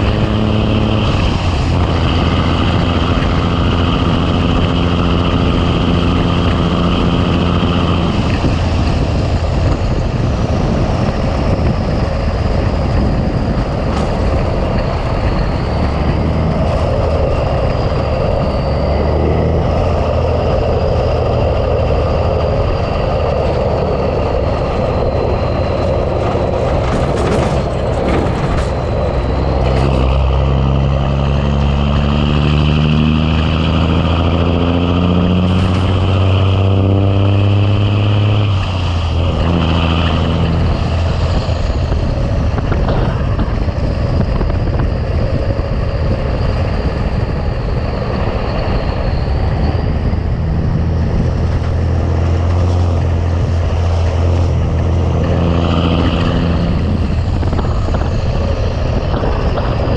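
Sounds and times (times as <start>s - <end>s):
diesel truck engine pulling: 0.0s - 59.9s.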